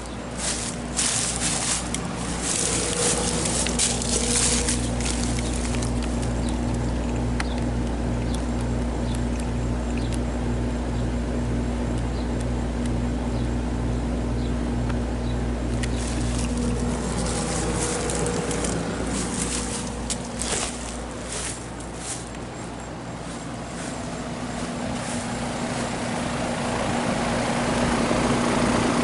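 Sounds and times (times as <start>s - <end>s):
air conditioner compressor hum: 0.0s - 29.0s
condenser fan rushing: 0.0s - 29.0s.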